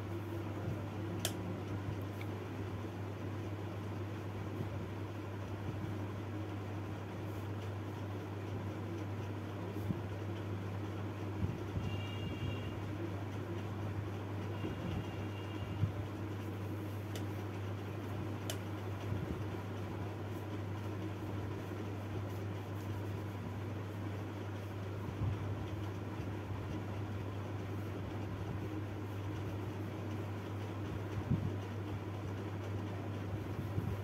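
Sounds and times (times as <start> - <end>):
fan or motor hum: 0.0 - 34.0
room noise hiss: 0.0 - 34.0.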